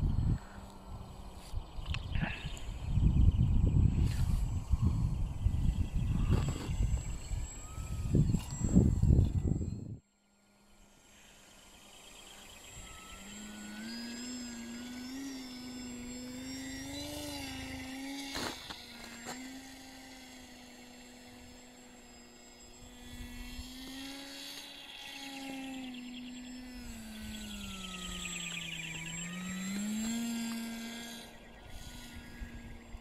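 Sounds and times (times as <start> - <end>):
model aircraft motor whining: 0.0 - 33.0.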